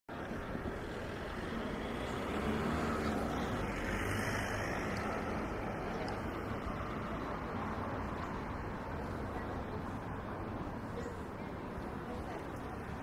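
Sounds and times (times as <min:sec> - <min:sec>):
distant traffic rumble: 0:00.1 - 0:13.0.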